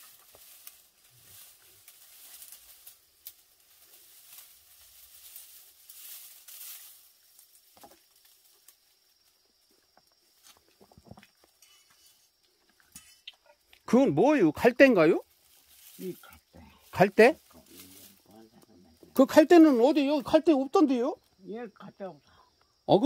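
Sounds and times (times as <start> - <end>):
dry stalks rustling and crackling: 0.0 - 21.5.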